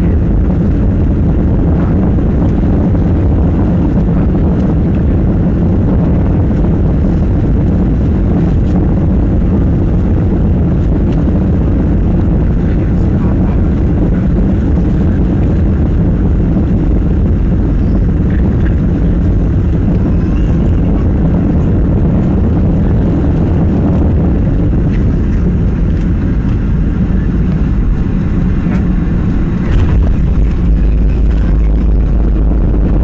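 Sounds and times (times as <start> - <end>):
jet engine roar in cabin: 0.0 - 33.0.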